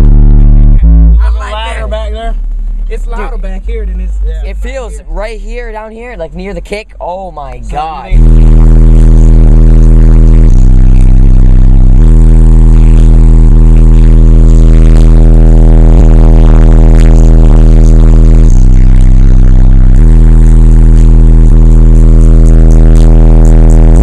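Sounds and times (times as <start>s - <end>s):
distorted bass-heavy music: 0.0s - 24.0s.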